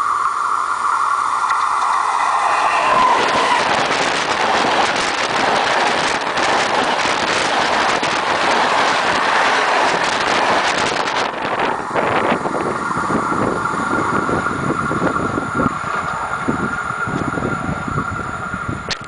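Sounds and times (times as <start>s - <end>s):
train passing overhead: 1.9s - 19.0s
wheels clacking on rails: 2.0s - 19.0s.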